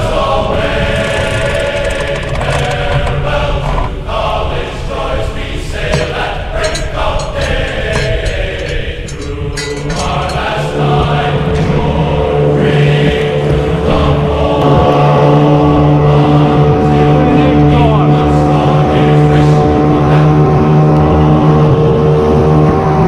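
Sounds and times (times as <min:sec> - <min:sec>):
choir singing long held notes: 0:00.0 - 0:23.0.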